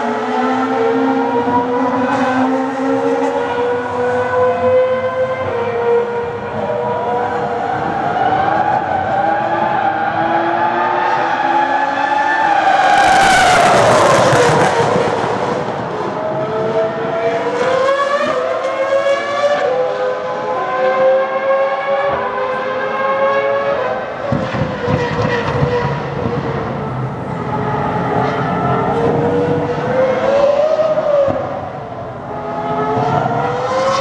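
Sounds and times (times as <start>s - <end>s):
racing car engine revving: 0.0s - 34.0s.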